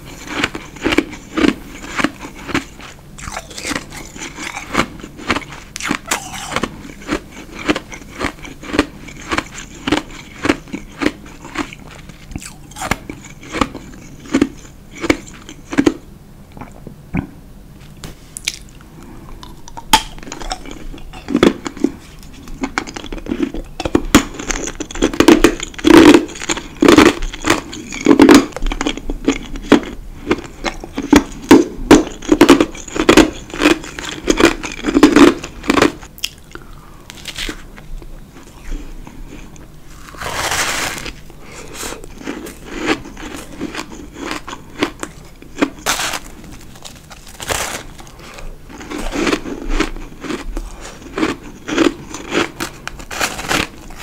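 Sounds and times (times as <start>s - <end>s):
chewing and crunching ice: 0.0s - 16.0s, 19.4s - 37.8s, 38.4s - 54.0s.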